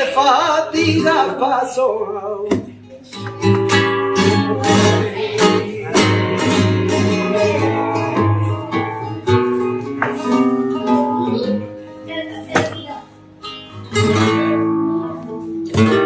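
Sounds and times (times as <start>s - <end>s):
flamenco guitar playing: 0.0s - 16.0s.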